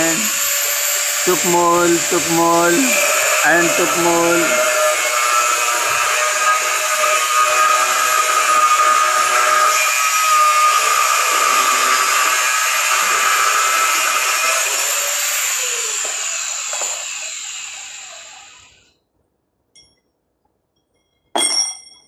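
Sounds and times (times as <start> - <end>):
angle grinder grinding steel: 0.0 - 18.9.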